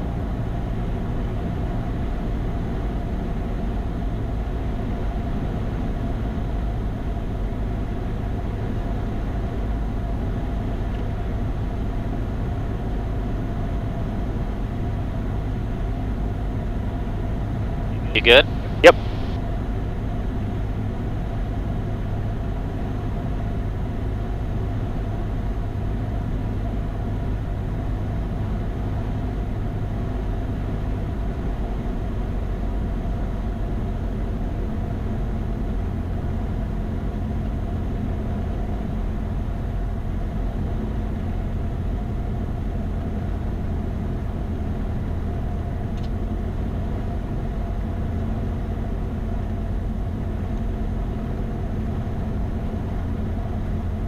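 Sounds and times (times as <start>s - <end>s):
plane engine droning in cabin: 0.0s - 54.0s.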